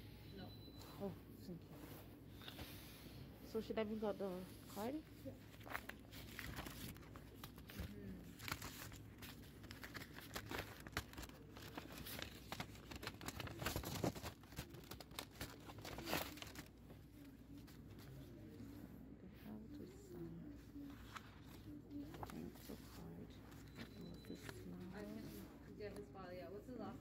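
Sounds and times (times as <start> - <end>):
paper rustling and crinkling: 3.6 - 18.8, 19.4 - 26.9.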